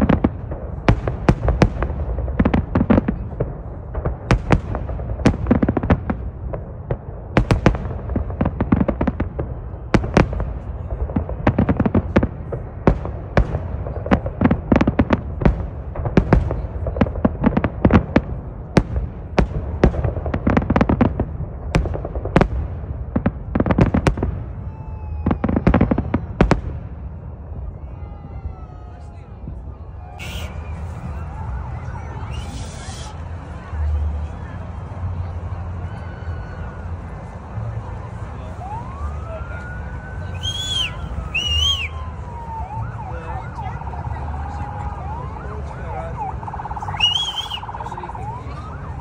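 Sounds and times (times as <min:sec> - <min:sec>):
fireworks bursting: 0:00.0 - 0:27.7, 0:30.2 - 0:35.8, 0:39.8 - 0:42.8, 0:46.1 - 0:49.0.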